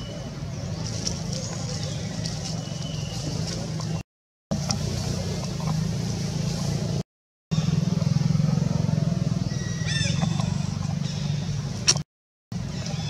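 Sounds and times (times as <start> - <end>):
low engine hum: 0.0 - 7.0, 7.6 - 13.0.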